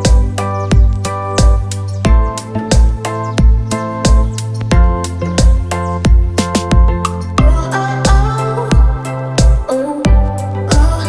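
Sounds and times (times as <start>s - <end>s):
kick drum: 0.1s - 10.2s.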